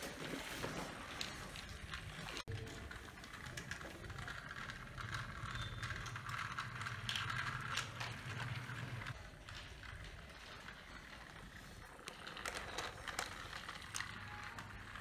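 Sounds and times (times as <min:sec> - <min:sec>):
toy train motor whirring: 0:01.6 - 0:15.0.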